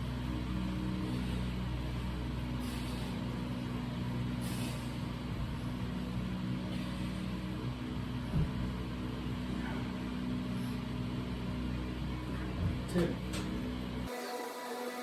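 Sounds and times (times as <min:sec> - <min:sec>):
low mechanical hum with held tones: 0:00.0 - 0:14.2.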